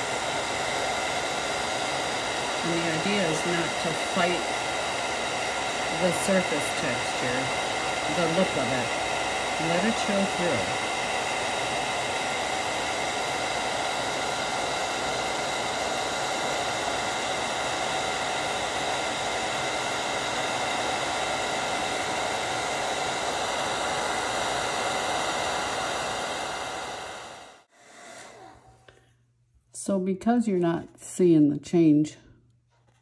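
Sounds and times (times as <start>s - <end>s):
hair dryer running: 0.0s - 29.1s.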